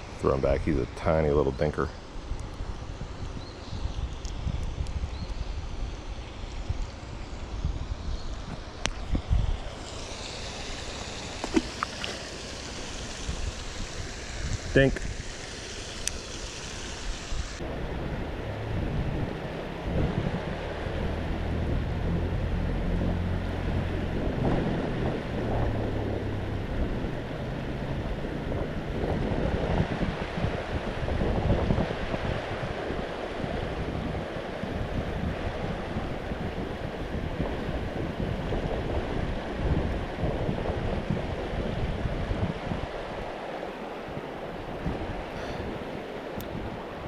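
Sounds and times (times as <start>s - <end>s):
wind buffeting microphone: 0.0s - 47.0s
river flowing: 5.3s - 39.0s, 41.2s - 47.0s.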